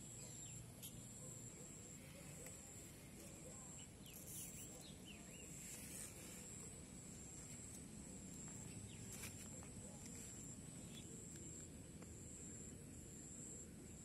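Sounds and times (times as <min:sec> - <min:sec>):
faint bird chirps: 0:00.0 - 0:14.0
faint high-pitched whine: 0:00.0 - 0:14.0
low background noise: 0:00.0 - 0:14.0.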